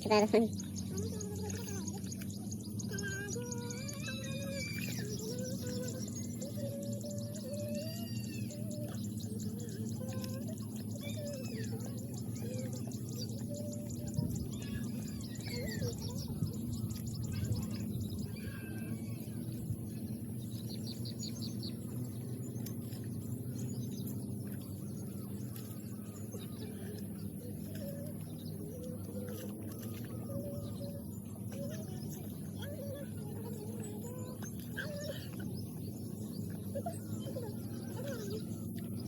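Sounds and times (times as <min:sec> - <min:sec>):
small birds chirping: 0:00.0 - 0:39.0
steady low hum: 0:00.0 - 0:39.0.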